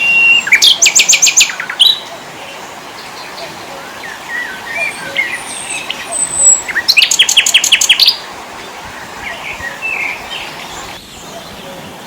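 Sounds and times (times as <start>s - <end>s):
songbirds chirping and whistling: 0.0s - 12.0s.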